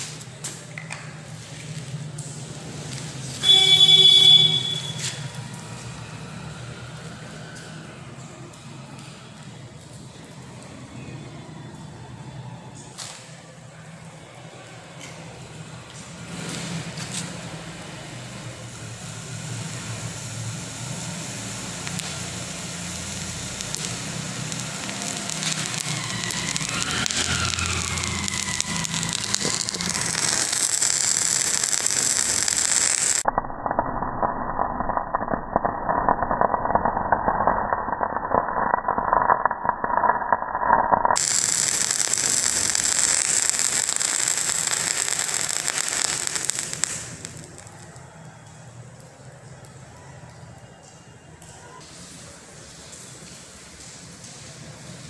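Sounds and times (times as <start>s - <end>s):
chemical fire crackling and hissing: 0.0s - 10.3s, 15.9s - 49.7s.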